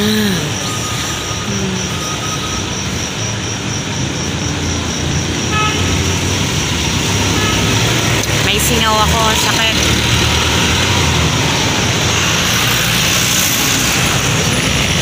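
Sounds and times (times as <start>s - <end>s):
highway traffic: 0.0s - 15.0s.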